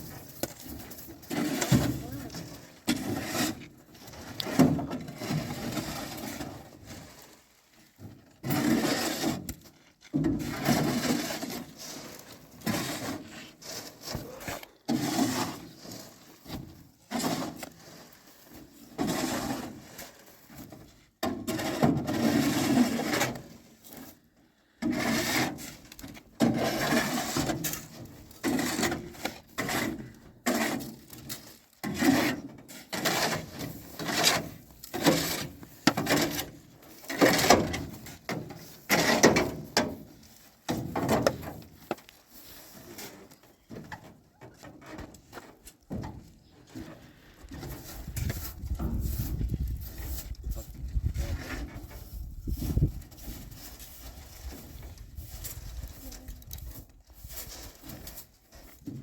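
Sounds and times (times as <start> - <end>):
rough scraping strokes: 0.0 - 7.6, 8.4 - 20.8, 21.4 - 43.5, 46.6 - 59.0.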